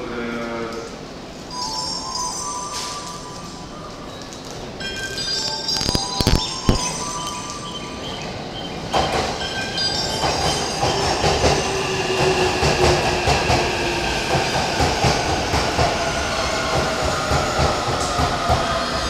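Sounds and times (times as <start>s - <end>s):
train steady whine: 0.9s - 19.0s.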